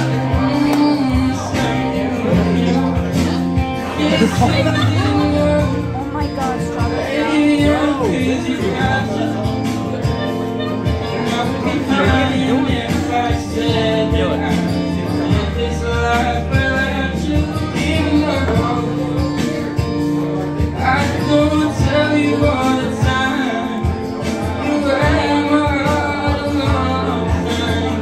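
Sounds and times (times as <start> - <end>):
backing track with steady beat: 0.0 - 28.0
man singing into a microphone: 0.0 - 28.0.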